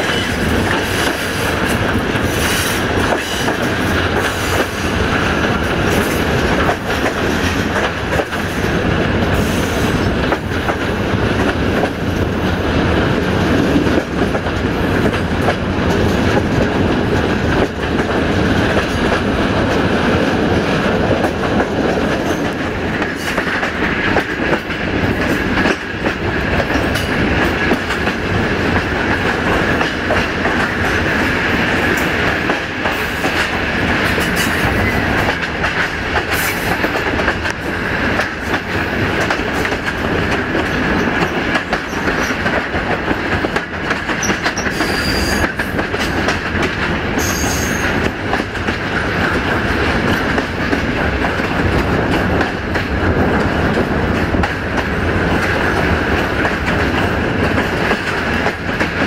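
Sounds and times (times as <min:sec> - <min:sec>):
train wheels clattering on rail: 0:00.0 - 0:59.0.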